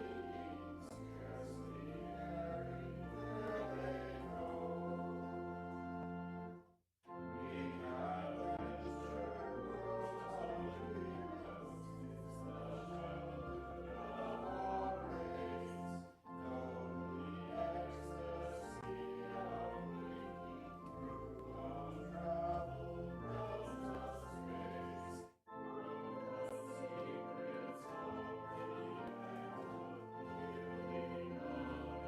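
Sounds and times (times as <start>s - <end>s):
organ playing chords: 0.0s - 32.0s.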